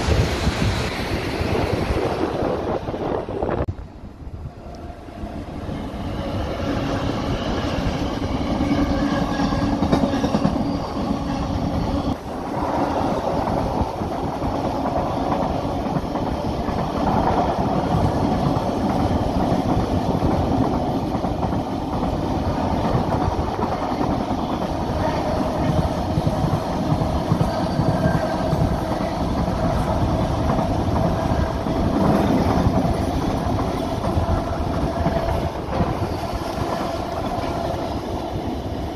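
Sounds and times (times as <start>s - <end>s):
freight locomotive passing: 0.0s - 38.9s
train wheels rumbling on rail: 0.0s - 38.9s.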